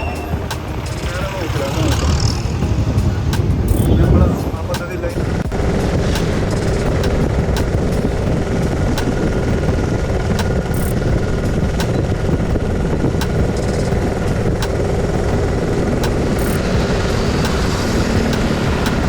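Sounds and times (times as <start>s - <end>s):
motorcycle engine running: 0.0s - 19.0s
rush of noise: 0.0s - 19.0s.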